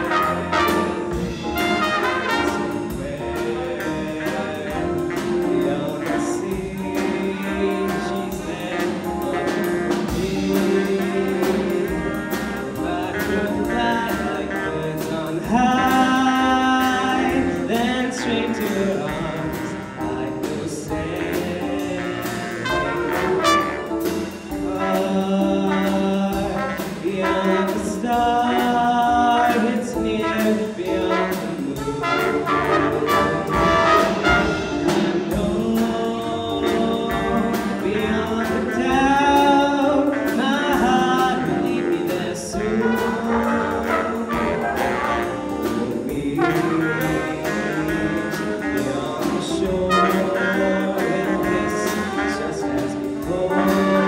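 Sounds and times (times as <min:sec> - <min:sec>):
jazz band playing: 0:00.0 - 0:54.0.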